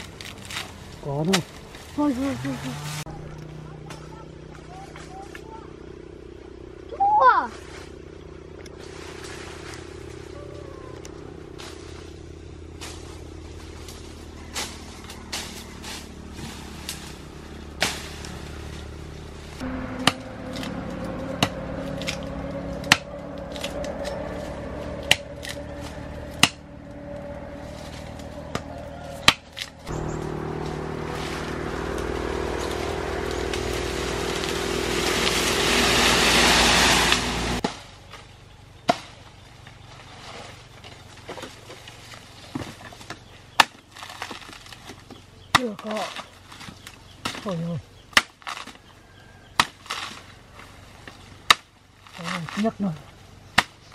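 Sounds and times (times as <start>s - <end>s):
engine running: 0.0s - 53.9s.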